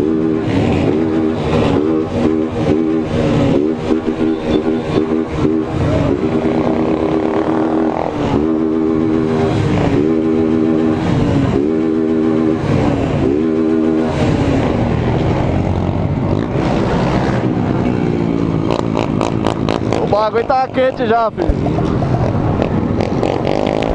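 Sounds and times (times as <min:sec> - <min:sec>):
motorcycle engines revving: 0:00.0 - 0:23.9
rumble of motorcycles riding: 0:00.0 - 0:23.9.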